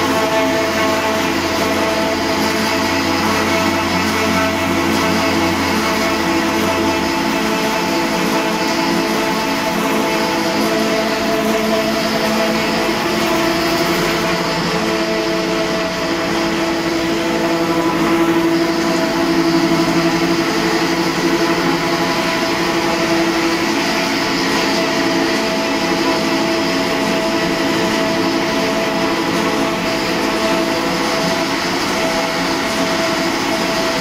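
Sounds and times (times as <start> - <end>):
recycling machine droning: 0.0 - 34.0.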